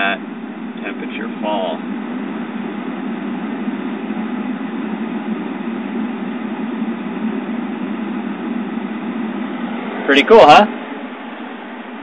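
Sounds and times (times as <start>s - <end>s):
car fan blowing air: 0.0s - 12.0s.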